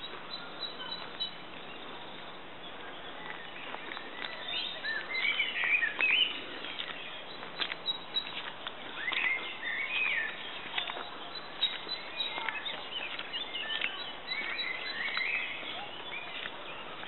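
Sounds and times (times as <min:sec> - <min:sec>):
footsteps on a dirt path: 0:00.0 - 0:17.0
songbirds singing: 0:00.0 - 0:17.0.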